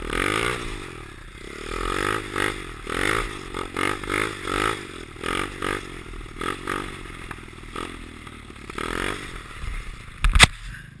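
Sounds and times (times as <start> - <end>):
small motorbike engine revving: 0.0 - 11.0.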